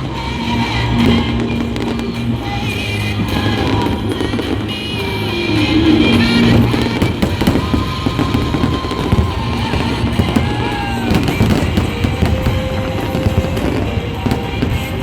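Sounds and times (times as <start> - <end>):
fireworks bursting and crackling: 0.0 - 15.0
music: 0.0 - 15.0.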